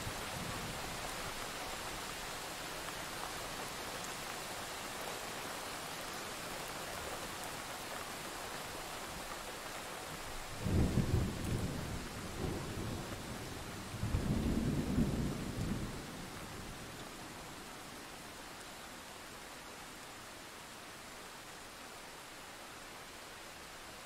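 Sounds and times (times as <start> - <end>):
steady rain hissing: 0.0 - 24.0.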